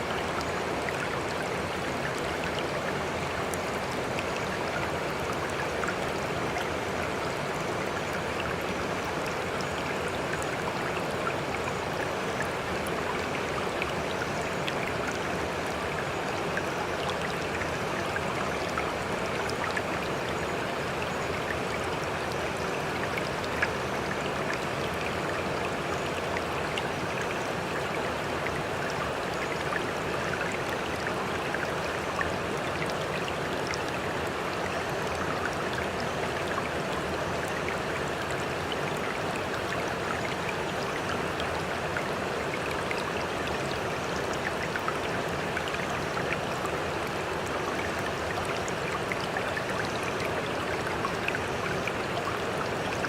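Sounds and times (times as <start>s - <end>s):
rushing water: 0.0s - 53.0s
water drips and splashes: 0.0s - 53.0s.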